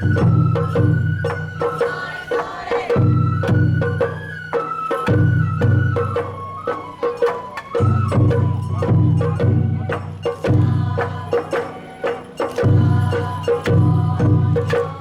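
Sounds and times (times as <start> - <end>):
bamboo flute melody: 0.0 - 15.0
drums: 0.0 - 15.0
sharp metallic and wooden percussion: 0.0 - 15.0.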